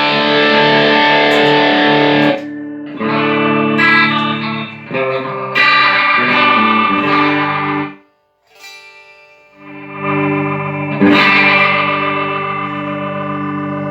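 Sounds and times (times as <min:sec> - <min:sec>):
electric guitar notes and chords: 0:00.0 - 0:08.1, 0:09.6 - 0:13.9.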